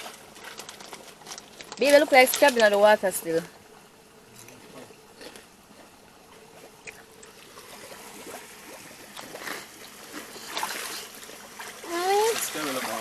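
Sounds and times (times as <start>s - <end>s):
river water trickling: 0.0s - 13.0s
small water splashes: 0.0s - 13.0s.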